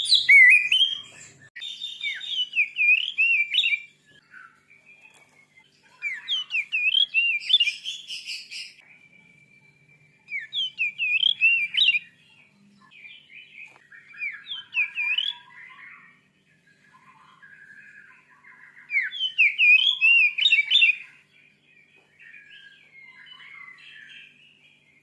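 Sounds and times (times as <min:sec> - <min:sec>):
bird singing whistled notes: 0:00.0 - 0:25.0.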